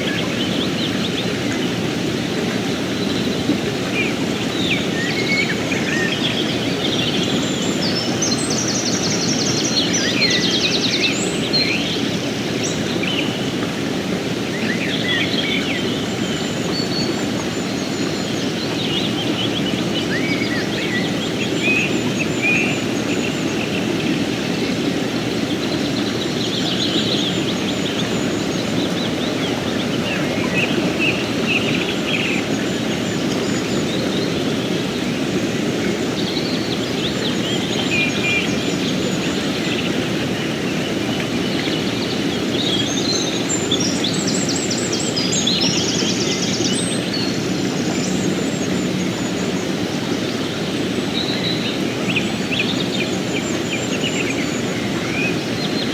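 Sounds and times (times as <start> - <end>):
birds chirping: 0.0 - 55.9
river rushing over rocks: 0.0 - 55.9.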